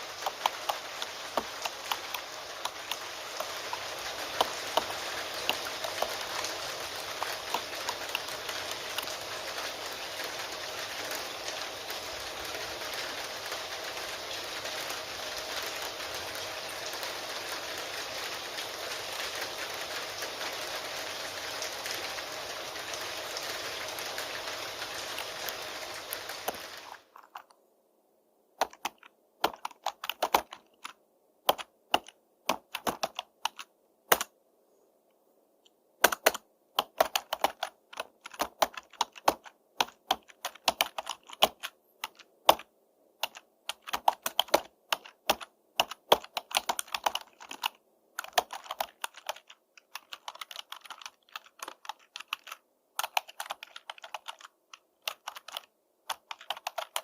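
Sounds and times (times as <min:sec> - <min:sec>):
computer keyboard typing: 0:00.0 - 0:20.9, 0:28.6 - 0:34.3, 0:36.0 - 0:57.0.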